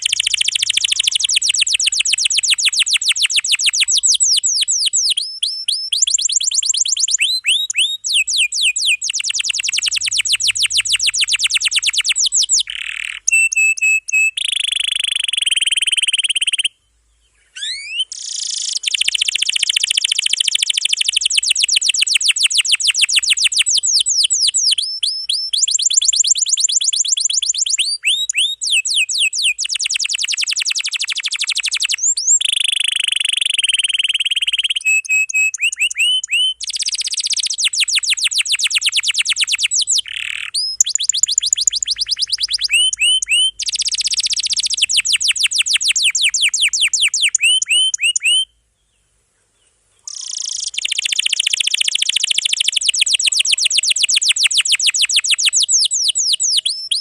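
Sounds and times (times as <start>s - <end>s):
canary singing rolling trills: 0.0s - 57.0s.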